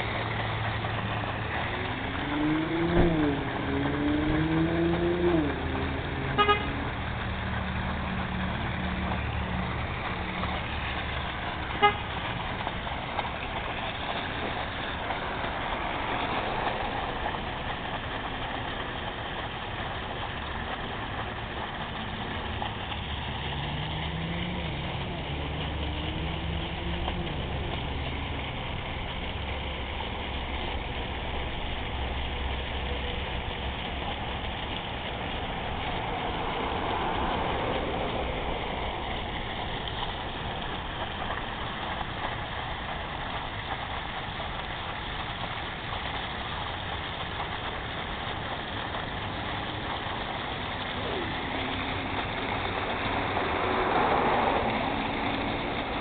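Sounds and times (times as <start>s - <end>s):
water jet gushing and splashing: 0.0s - 56.0s.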